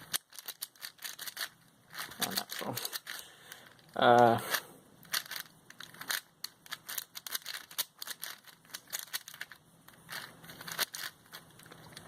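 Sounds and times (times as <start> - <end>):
speed cube plastic clicks: 0.0 - 4.4, 5.0 - 12.0.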